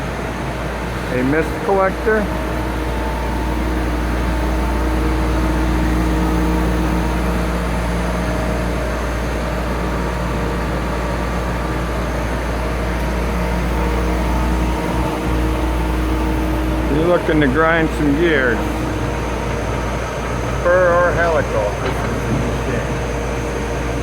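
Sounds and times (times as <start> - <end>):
gear grinder machine humming: 0.0 - 24.0.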